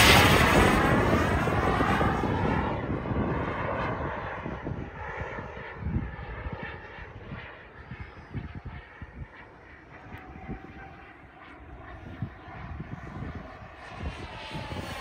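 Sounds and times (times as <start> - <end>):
model jet turbine rushing: 0.0 - 15.0.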